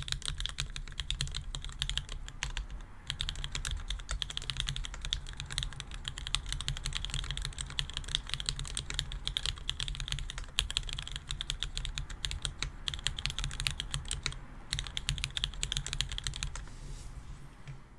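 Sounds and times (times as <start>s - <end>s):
mechanical keyboard typing: 0.0s - 16.6s.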